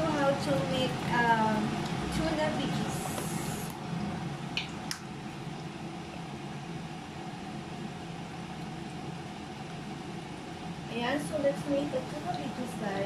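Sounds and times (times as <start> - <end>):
appliance fan whirring: 0.0 - 13.0.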